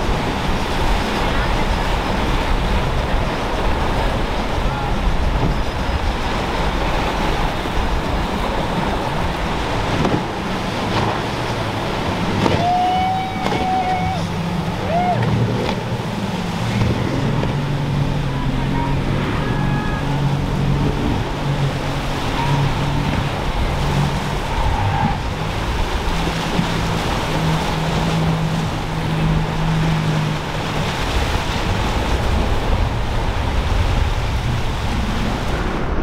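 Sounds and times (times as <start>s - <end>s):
outboard engines humming: 0.0s - 36.0s
surf and spray rushing: 0.0s - 36.0s
wind: 0.0s - 36.0s.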